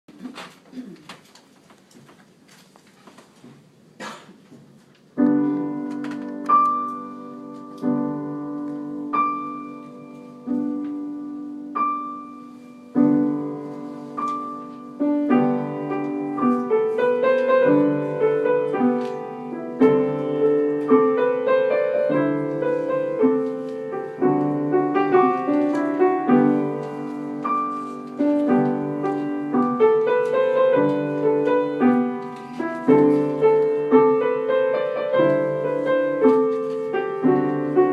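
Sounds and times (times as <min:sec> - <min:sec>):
solo piano playing: 0:05.1 - 0:37.9.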